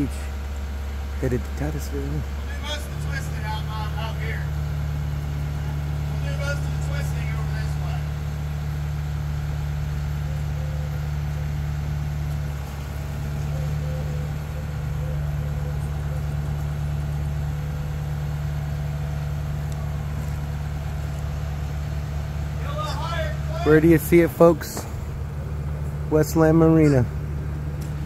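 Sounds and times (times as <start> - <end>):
diesel engine droning: 0.0 - 28.0.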